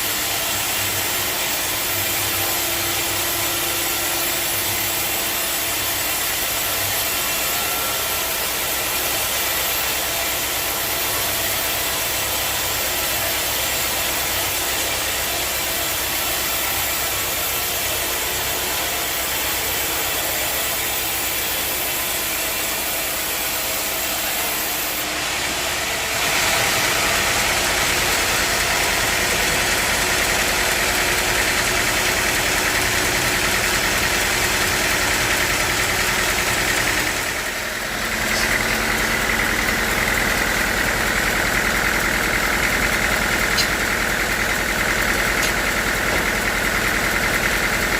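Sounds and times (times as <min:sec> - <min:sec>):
sawmill machinery droning: 0:00.0 - 0:47.9.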